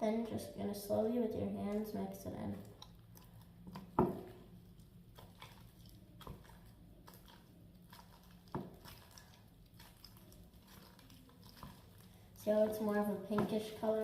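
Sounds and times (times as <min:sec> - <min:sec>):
slime squelching by hand: 0:00.7 - 0:14.0.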